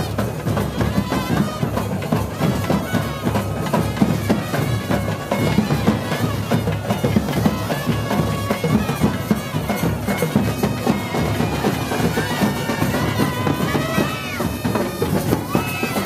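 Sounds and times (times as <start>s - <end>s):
steady drum beats: 0.0s - 16.0s
wind instruments playing melody: 0.0s - 16.0s.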